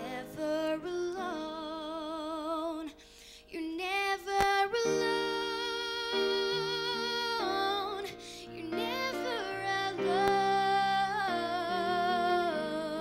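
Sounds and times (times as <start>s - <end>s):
woman singing a slow ballad: 0.0s - 13.0s.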